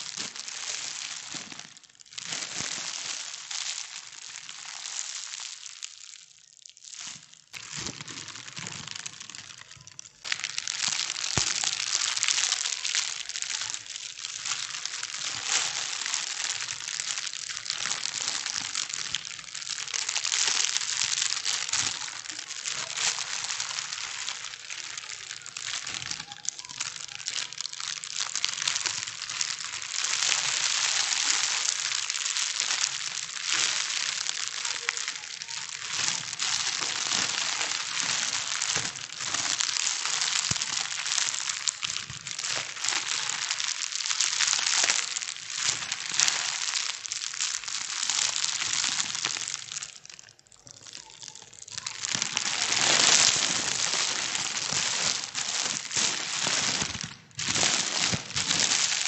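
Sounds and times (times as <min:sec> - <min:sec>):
plastic bags crinkling: 0:00.0 - 0:59.0.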